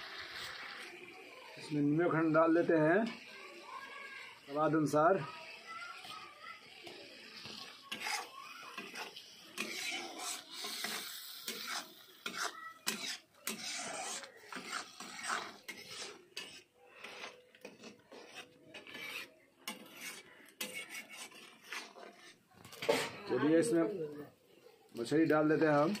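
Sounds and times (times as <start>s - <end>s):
metal spatula scraping pan: 2.0s - 23.4s, 25.4s - 26.0s.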